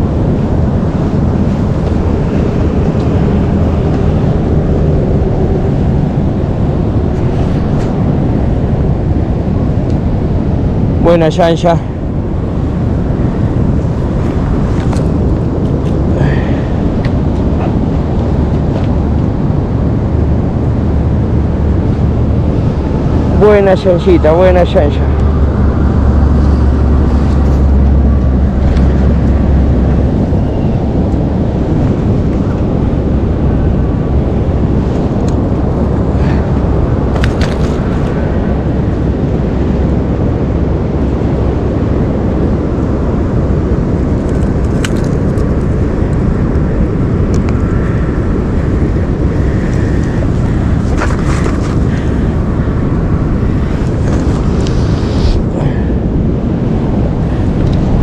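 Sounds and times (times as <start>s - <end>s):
sea surf: 0.0s - 58.0s
wind buffeting microphone: 0.0s - 58.0s.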